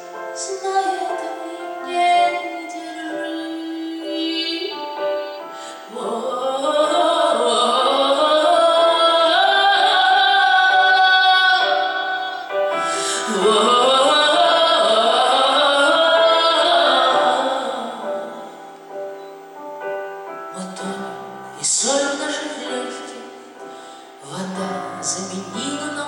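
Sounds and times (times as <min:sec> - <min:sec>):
song accompaniment: 0:00.0 - 0:26.0.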